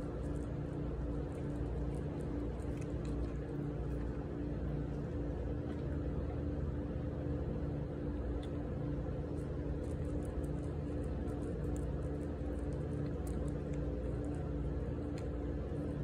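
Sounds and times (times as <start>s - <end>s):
cat crunching dry kibble: 0.0s - 6.0s, 8.3s - 16.0s
mechanical hum: 0.0s - 16.0s.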